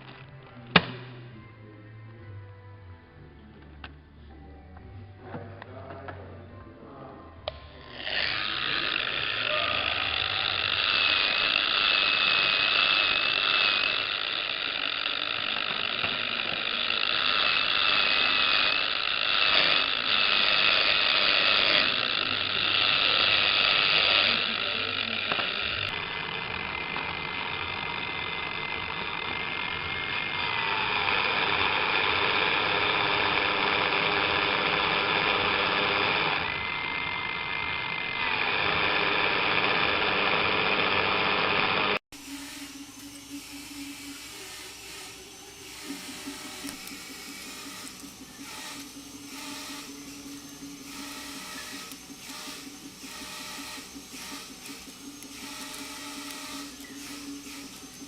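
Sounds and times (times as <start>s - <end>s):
electric drive whine: 0.0s - 58.0s.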